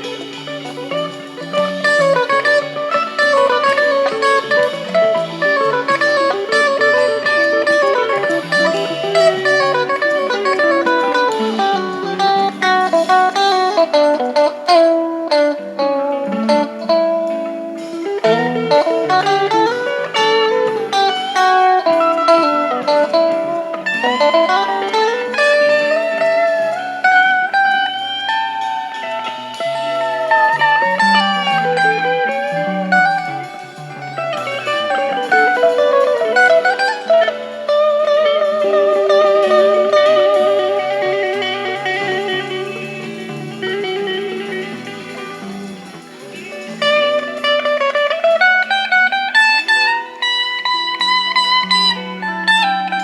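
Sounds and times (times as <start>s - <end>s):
electric guitar with wah lead: 0.0s - 53.0s.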